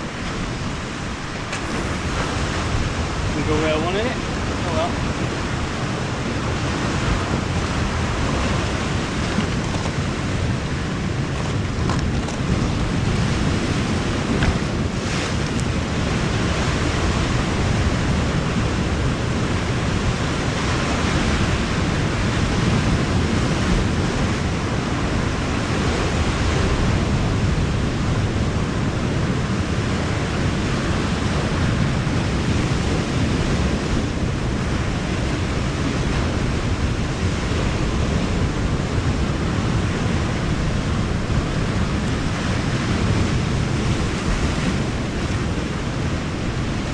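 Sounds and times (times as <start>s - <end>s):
sea surf on rocky shore: 0.0s - 46.9s
wind noise on microphone: 0.0s - 46.9s.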